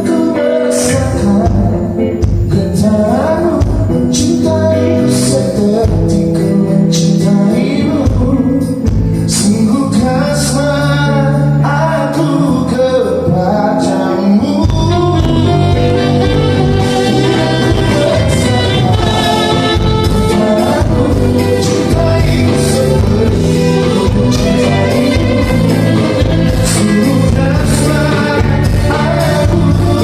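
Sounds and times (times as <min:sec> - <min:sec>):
live band playing: 0:00.0 - 0:30.0
person singing: 0:00.0 - 0:30.0.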